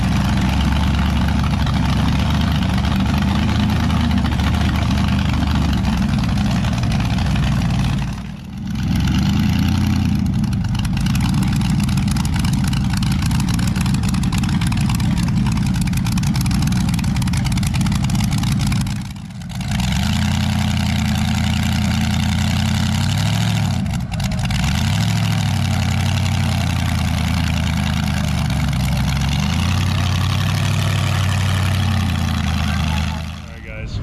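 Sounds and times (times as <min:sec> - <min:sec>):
truck engine running loud: 0:00.0 - 0:34.0.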